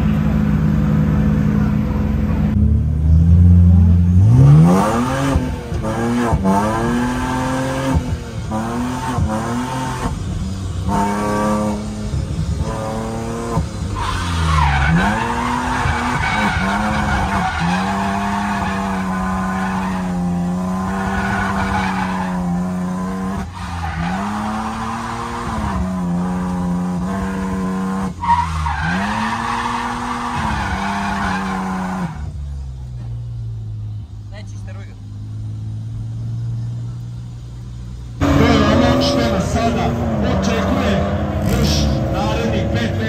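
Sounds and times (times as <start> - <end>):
car engine revving high: 0.0 - 32.3, 38.2 - 43.0.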